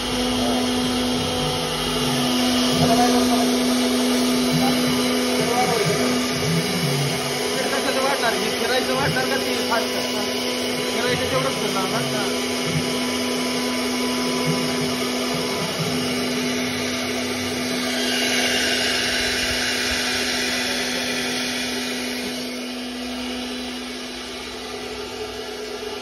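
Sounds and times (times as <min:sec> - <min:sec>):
hissing cutting noise: 0:00.0 - 0:26.0
router spindle whine: 0:00.0 - 0:26.0.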